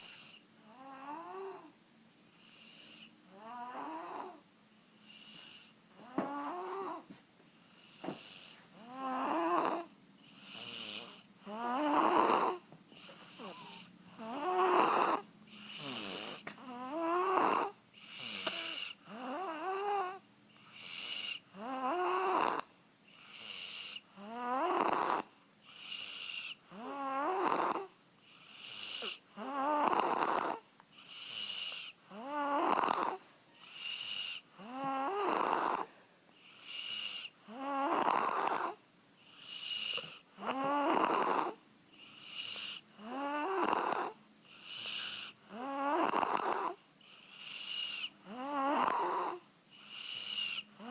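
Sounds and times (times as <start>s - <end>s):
child snoring: 0.0s - 1.8s, 2.4s - 4.4s, 5.1s - 50.9s.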